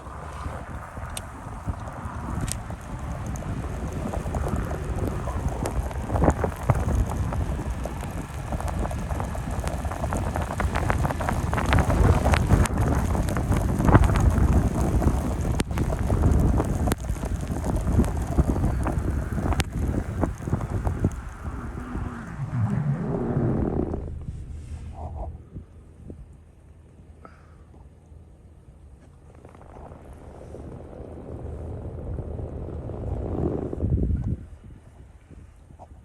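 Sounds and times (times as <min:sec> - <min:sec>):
wind buffeting microphone: 0:00.0 - 0:26.5, 0:29.6 - 0:36.0.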